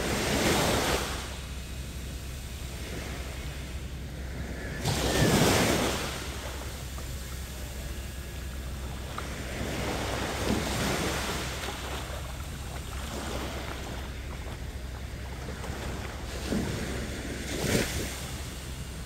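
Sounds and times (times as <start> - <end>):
low rumble: 0.0 - 19.0
small waves lapping: 0.0 - 19.0.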